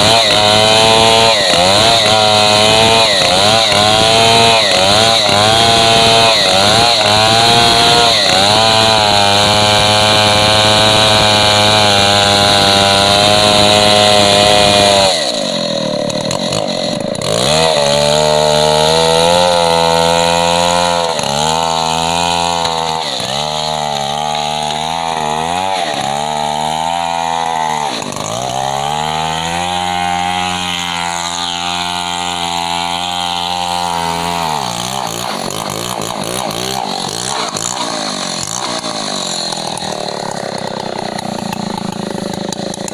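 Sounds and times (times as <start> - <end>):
chainsaw cutting wood at full throttle: 0.0 - 42.9.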